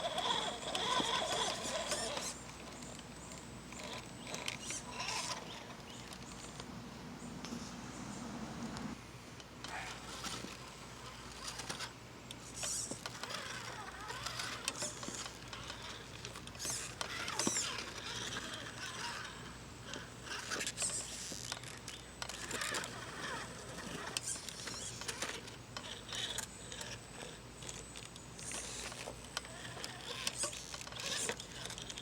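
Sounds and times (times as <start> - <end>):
geared mechanism whirring: 0.0 - 6.2, 9.6 - 32.0
scattered clicks and scrapes: 0.0 - 6.6, 9.6 - 32.0
steady low hum: 0.0 - 32.0.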